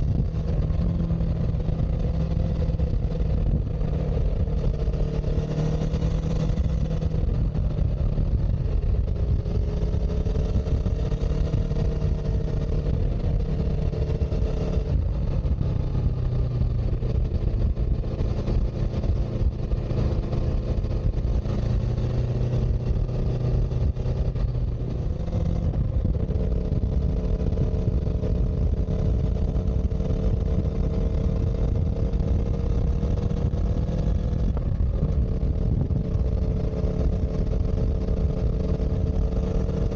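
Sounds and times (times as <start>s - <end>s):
vehicle engine running: 0.0s - 39.9s
wind and road noise rumble: 0.0s - 39.9s.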